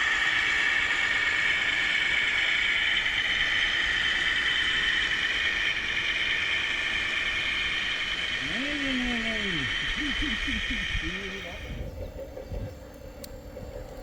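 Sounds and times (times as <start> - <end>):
electric motor and gearbox whine: 0.0 - 14.0.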